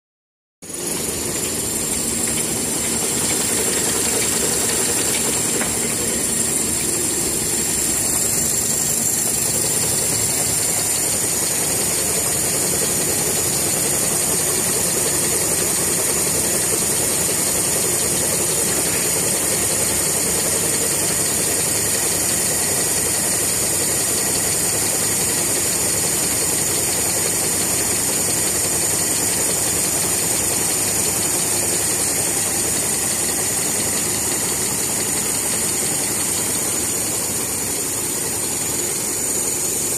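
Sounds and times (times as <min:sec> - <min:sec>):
machine drone: 0:00.6 - 0:24.8, 0:26.0 - 0:39.9
high-pitched machine whine: 0:00.6 - 0:39.9.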